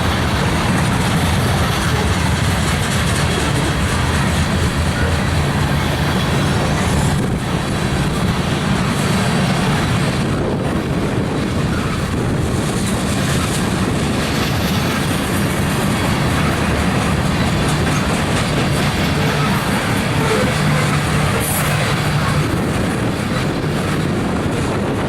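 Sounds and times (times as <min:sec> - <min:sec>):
freight train wheels clattering: 0:00.0 - 0:25.0.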